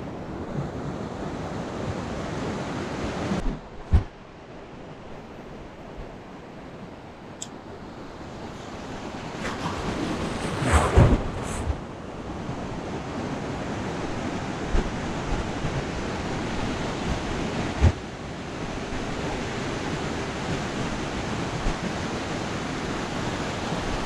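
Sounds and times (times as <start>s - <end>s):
ocean surf breaking on beach: 0.0s - 24.0s.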